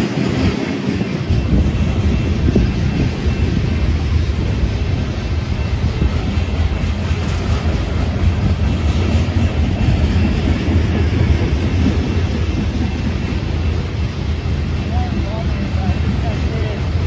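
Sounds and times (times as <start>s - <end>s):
freight train passing: 0.0s - 17.0s.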